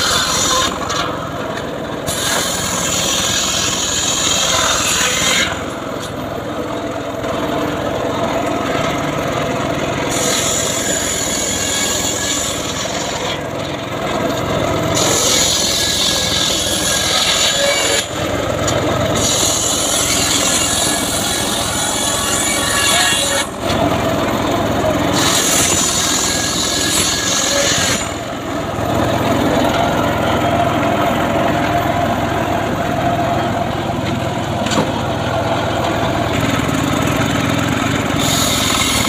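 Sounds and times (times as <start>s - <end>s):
saw machine cutting log: 0.0s - 39.0s.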